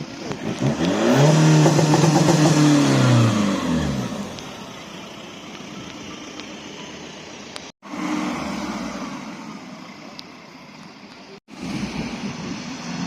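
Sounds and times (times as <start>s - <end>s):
car engine revving: 0.0s - 10.2s, 11.4s - 13.0s
traffic noise: 0.0s - 13.0s.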